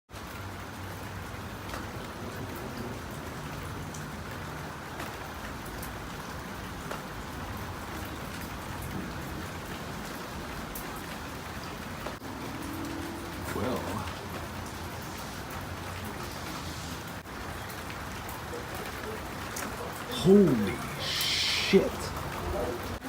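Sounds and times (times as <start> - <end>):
heavy rain falling: 0.1 - 23.0.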